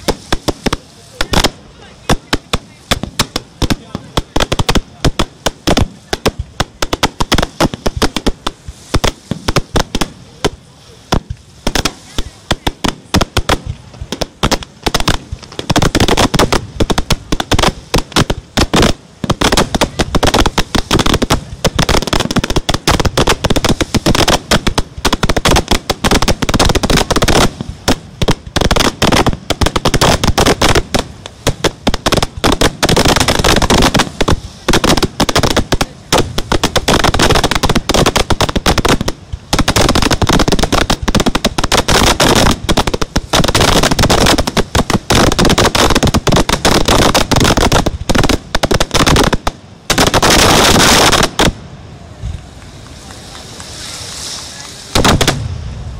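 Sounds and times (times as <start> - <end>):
fireworks bursting and crackling: 0.0 - 55.9.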